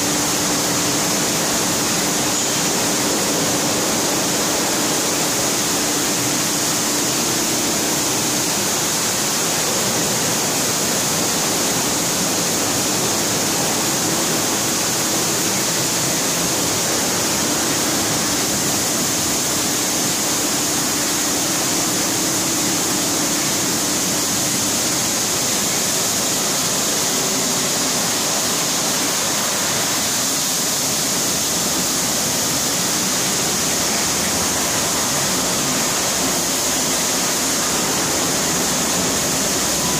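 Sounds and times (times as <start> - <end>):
water jets spraying: 0.0 - 39.9.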